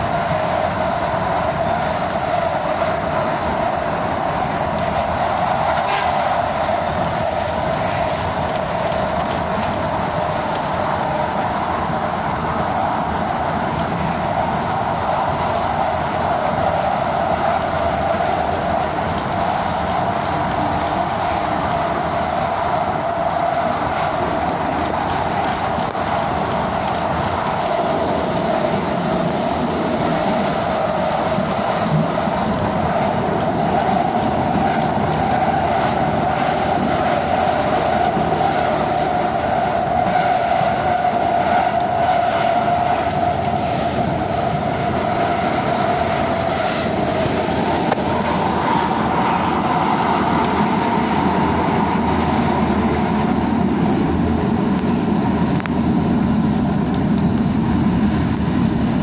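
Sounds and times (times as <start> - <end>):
train wheels rumbling on rail: 0.0 - 59.0
train whine: 0.0 - 59.0.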